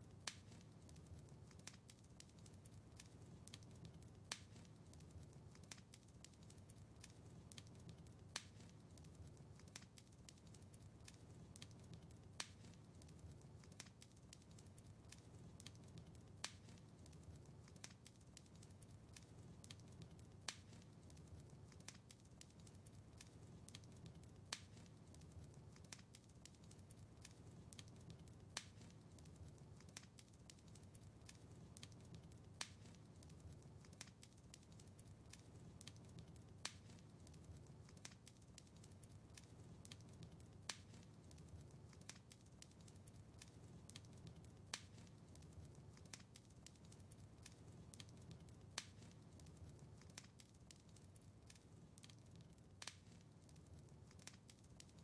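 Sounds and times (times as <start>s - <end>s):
sharp fire snap: 0.0s - 55.0s
wood fire crackling: 0.0s - 55.0s.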